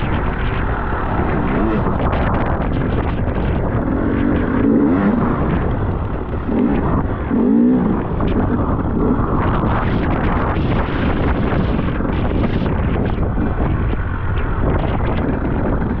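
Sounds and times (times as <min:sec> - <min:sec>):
motorcycle engine revving: 0:00.0 - 0:16.0
wind rumble on microphone: 0:00.0 - 0:16.0.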